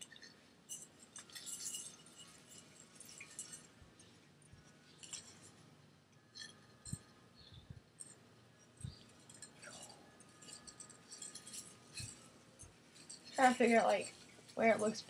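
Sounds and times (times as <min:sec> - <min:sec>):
ornaments clinking: 0:00.0 - 0:15.0.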